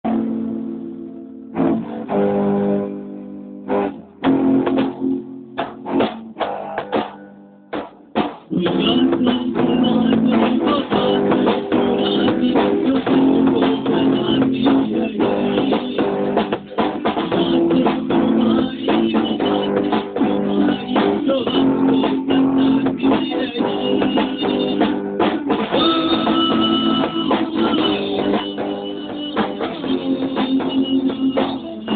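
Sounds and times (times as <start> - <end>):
rock band playing: 0.1 - 31.9.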